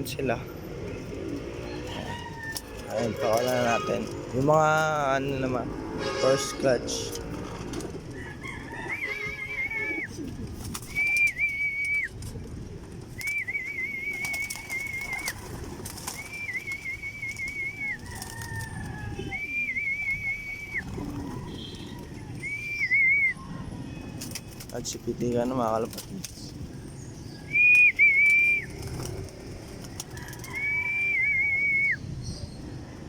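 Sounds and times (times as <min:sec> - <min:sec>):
pigeons cooing: 0:00.0 - 0:04.5, 0:07.2 - 0:31.8.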